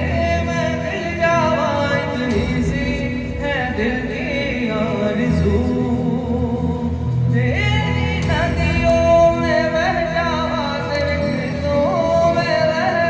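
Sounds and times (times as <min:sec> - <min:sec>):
instrumental backing: 0:00.0 - 0:13.0
person singing wordless melody: 0:00.0 - 0:13.0.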